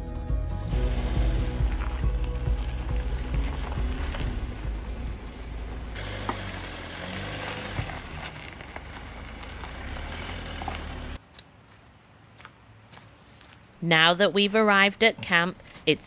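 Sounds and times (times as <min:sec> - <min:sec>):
car engine and road rumble: 0:00.0 - 0:13.7.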